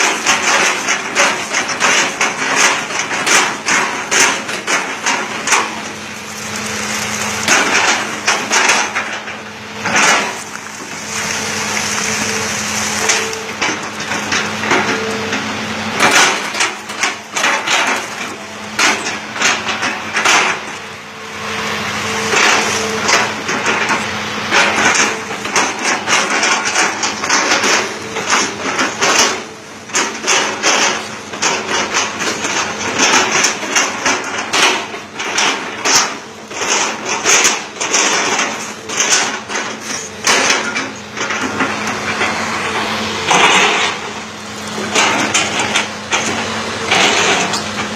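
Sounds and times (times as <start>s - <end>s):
wood cracking and crunching: 0.0s - 21.0s, 22.2s - 47.9s
excavator humming: 0.0s - 47.9s.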